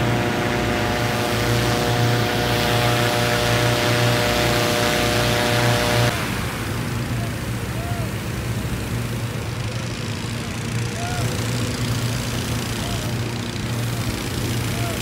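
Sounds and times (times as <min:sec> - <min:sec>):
fan engine humming: 0:00.0 - 0:15.0
propane burner roaring: 0:00.0 - 0:15.0.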